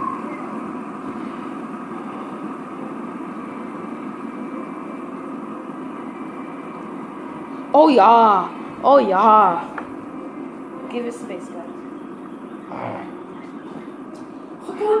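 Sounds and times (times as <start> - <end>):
fidget spinners whirring: 0.0 - 15.0.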